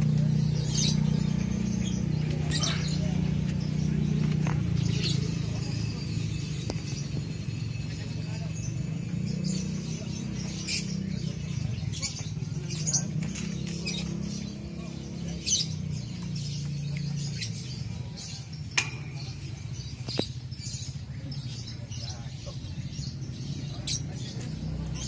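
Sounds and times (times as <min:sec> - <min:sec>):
lovebirds chirping: 0:00.0 - 0:25.0
murmur of voices: 0:00.0 - 0:25.0.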